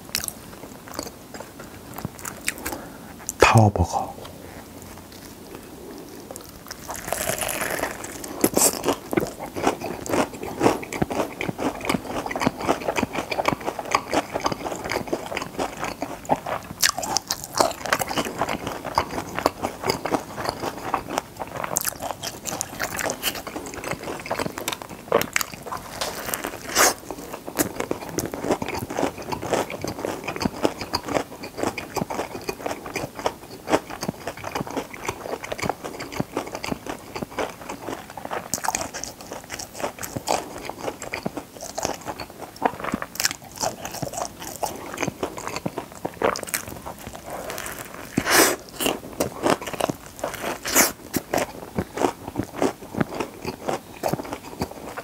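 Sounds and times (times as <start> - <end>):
crunching and chewing food: 0.0 - 3.4, 4.0 - 55.0.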